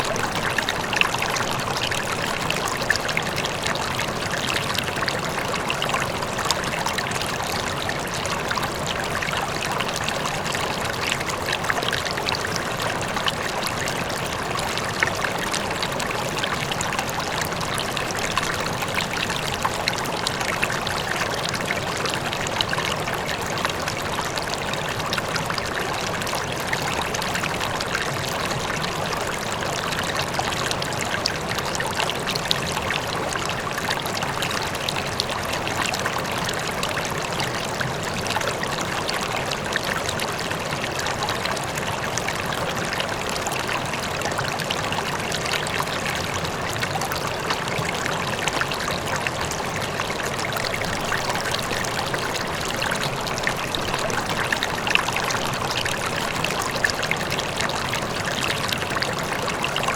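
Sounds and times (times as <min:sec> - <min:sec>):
river flowing: 0:00.0 - 0:59.9
water splashes and trickles: 0:00.0 - 0:59.9.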